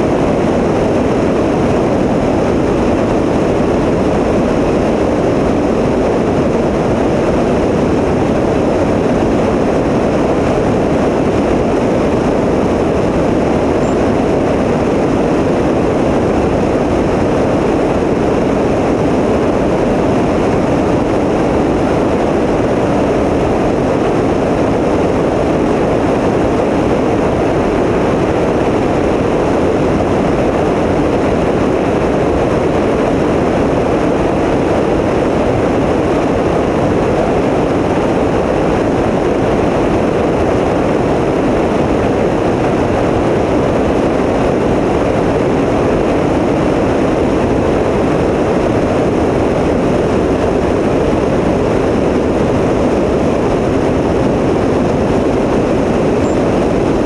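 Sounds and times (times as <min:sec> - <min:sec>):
light aircraft engine droning: 0:00.0 - 0:57.0.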